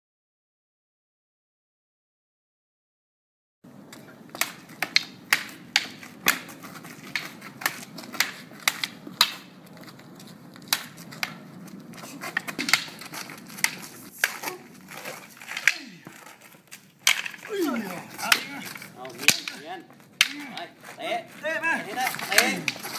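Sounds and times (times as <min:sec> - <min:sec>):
practice swords clacking: 0:03.7 - 0:22.9.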